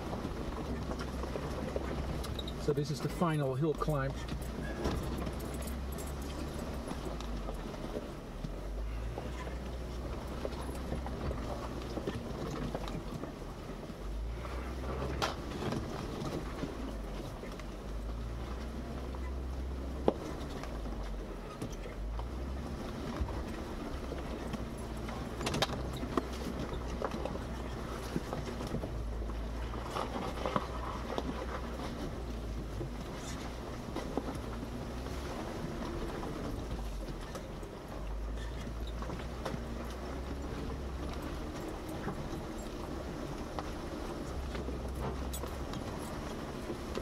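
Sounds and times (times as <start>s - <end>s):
car engine droning: 0.0s - 47.0s
knocks and clunks from rough ground: 0.0s - 47.0s.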